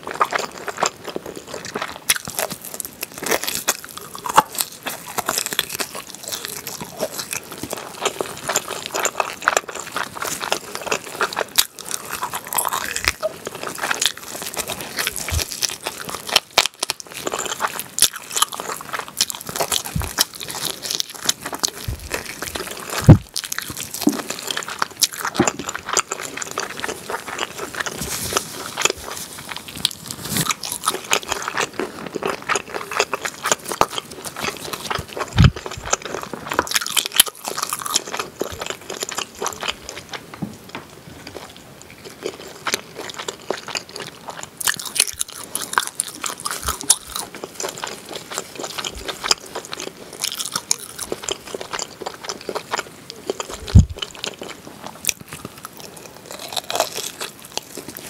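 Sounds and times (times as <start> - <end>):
chewing and wet smacking: 0.0 - 58.0.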